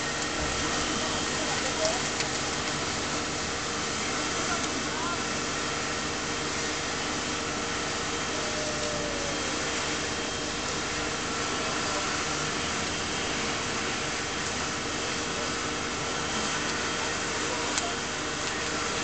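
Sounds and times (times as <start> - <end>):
fire hose spraying water: 0.0 - 19.0
steam boiling off: 0.0 - 19.0.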